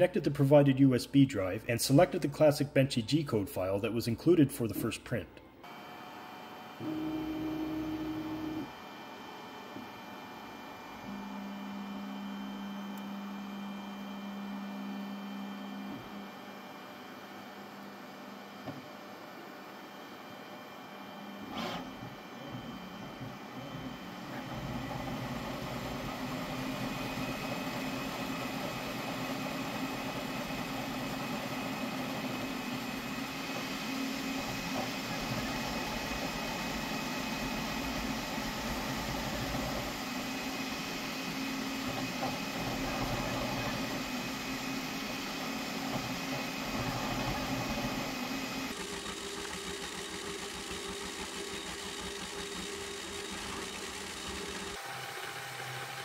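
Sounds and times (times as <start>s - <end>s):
printer mechanical whir: 5.6s - 56.0s
steady printer tones: 5.6s - 56.0s.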